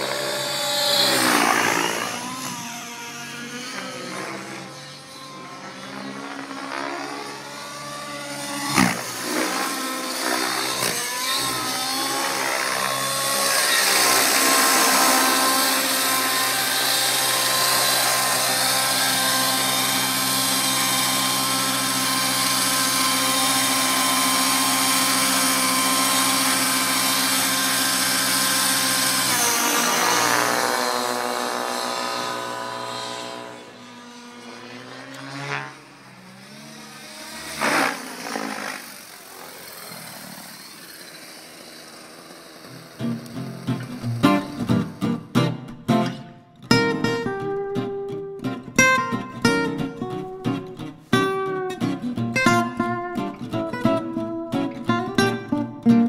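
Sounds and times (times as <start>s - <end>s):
rc helicopter engine and rotor: 0.0s - 45.0s.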